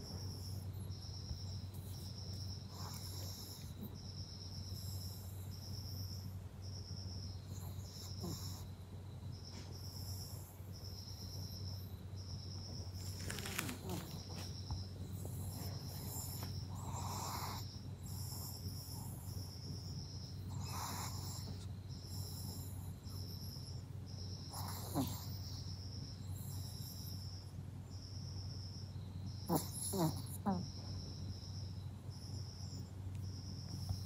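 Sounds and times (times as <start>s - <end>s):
puppy snoring breaths: 0.0s - 12.0s, 12.8s - 27.4s, 29.4s - 30.8s
crickets chirping: 0.0s - 34.0s.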